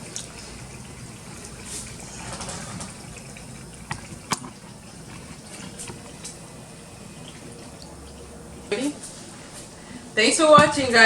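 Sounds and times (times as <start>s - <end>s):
liquid pouring and splashing: 0.0s - 9.7s.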